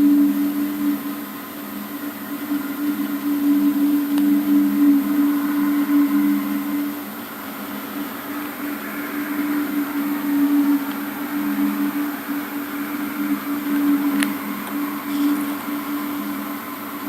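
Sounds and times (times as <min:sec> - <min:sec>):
low droning hum: 0:00.0 - 0:17.0.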